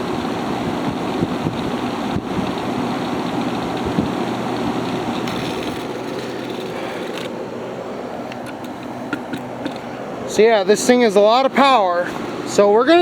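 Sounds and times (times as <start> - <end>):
air conditioner fan running: 0.0 - 13.0.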